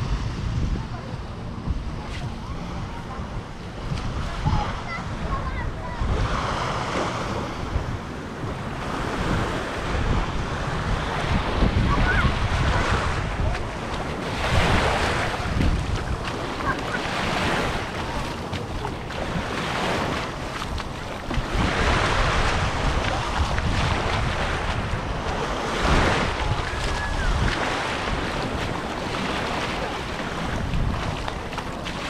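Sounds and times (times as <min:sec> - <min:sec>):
sea waves washing on shore: 0:00.0 - 0:32.0
wind buffeting microphone: 0:00.0 - 0:32.0.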